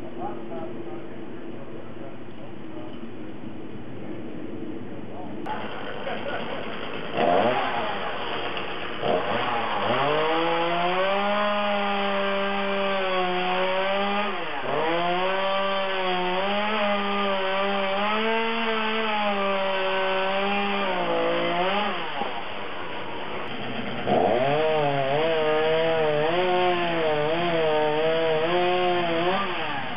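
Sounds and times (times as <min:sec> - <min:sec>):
chainsaw cutting wood: 0:05.5 - 0:29.9.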